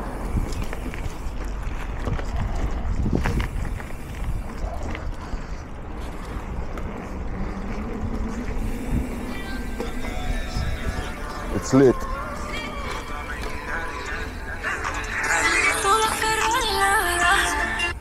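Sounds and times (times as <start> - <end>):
wind rumble on microphone: 0.0 - 14.7.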